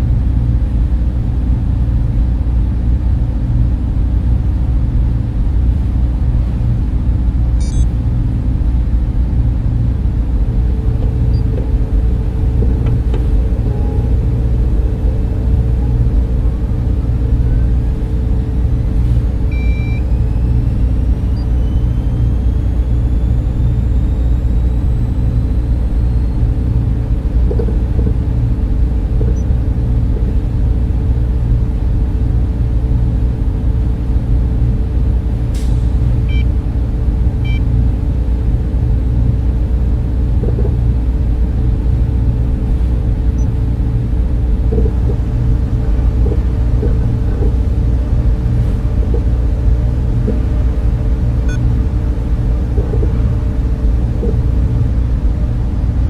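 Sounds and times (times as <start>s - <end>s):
cooling fans humming: 0.0s - 56.0s
constant tone: 6.3s - 36.8s, 38.8s - 56.0s.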